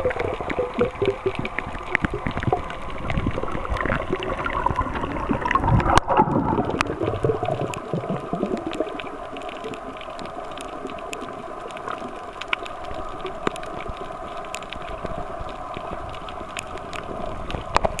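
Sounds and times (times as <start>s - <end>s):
sharp underwater clicks: 0.0s - 18.0s
underwater churning and bubbling: 0.0s - 18.0s.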